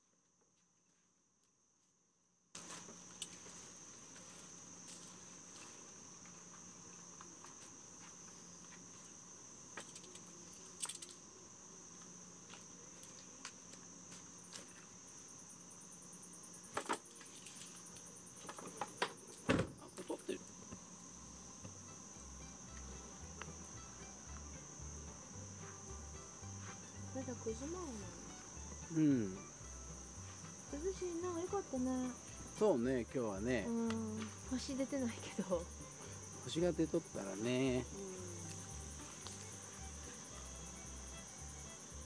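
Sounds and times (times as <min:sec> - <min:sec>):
crickets chirring: 0:02.6 - 0:42.0.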